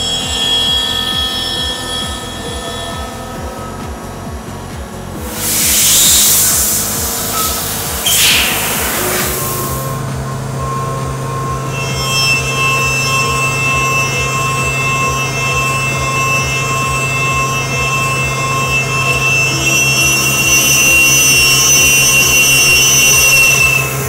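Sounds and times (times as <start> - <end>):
high-pitched machining whine: 0.0 - 24.0
low hum: 2.2 - 24.0.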